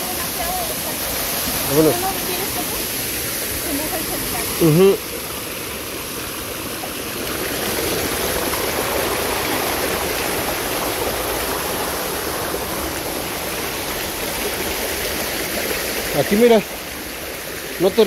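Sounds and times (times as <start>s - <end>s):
stream flowing: 0.0s - 18.0s.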